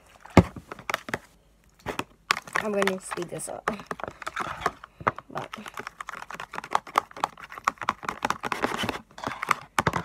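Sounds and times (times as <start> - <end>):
utensil stirring in plastic tub: 1.8 - 10.0.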